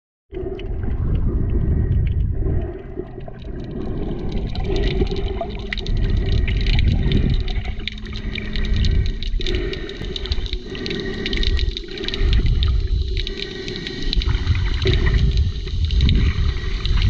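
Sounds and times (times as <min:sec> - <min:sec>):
underwater rumbling wash: 0:00.3 - 0:17.0.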